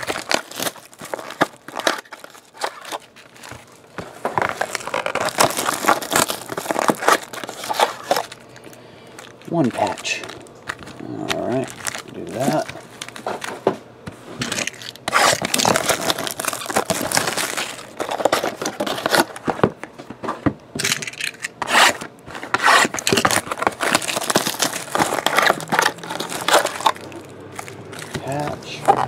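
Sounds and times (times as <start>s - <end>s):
plastic wrap tearing and crinkling: 0.0s - 13.7s, 14.3s - 19.5s, 20.8s - 29.0s.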